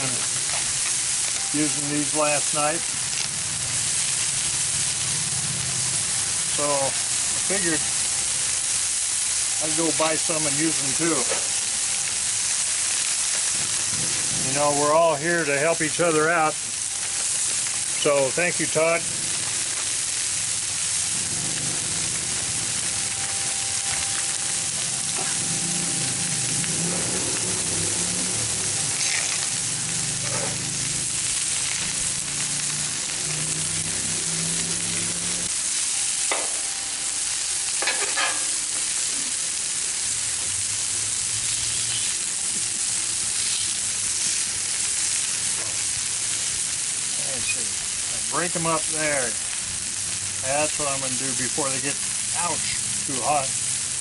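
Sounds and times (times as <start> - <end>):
food sizzling on a griddle: 0.0 - 54.0.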